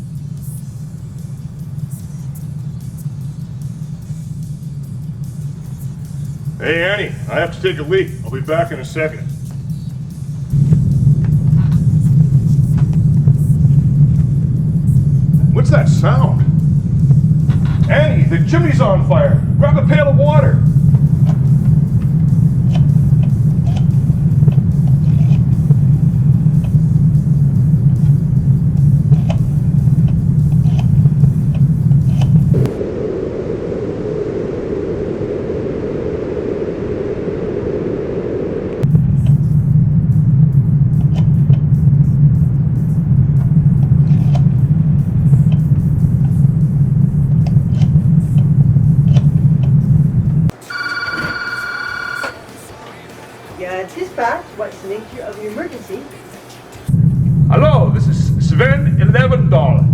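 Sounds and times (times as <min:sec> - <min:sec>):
fire crackling: 0:00.0 - 0:50.8, 0:52.5 - 0:59.9
fire rushing in chimney: 0:00.0 - 0:51.0, 0:53.2 - 0:59.9.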